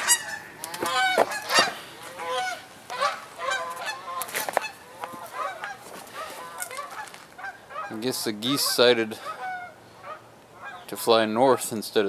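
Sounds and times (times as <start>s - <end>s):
geese honking: 0.0s - 11.2s.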